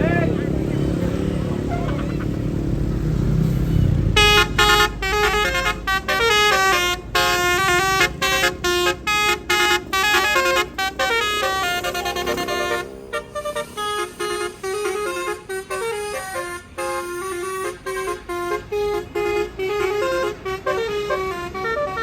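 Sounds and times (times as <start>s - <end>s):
low engine rumble: 0.0s - 22.0s
multi-tone bus horn melody: 0.0s - 22.0s.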